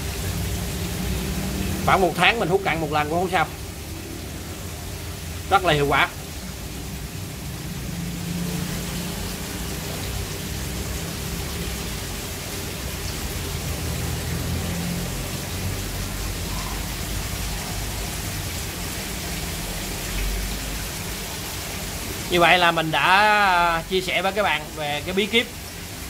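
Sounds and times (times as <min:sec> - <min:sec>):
rain-like hiss: 0:00.0 - 0:26.0.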